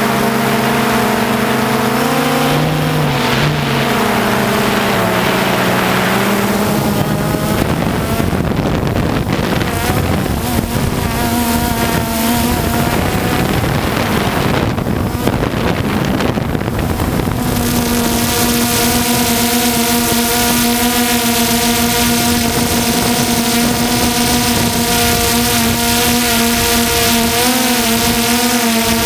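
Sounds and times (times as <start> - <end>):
drone propellers buzzing: 0.0 - 29.0
wind on microphone: 0.0 - 29.0.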